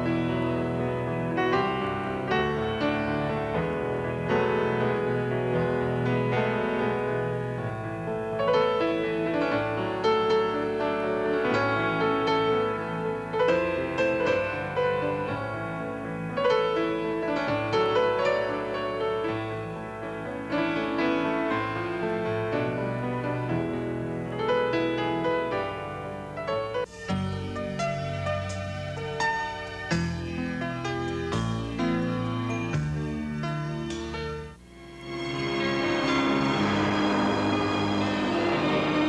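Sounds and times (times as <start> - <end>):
instrumental piano music: 0.0 - 39.0.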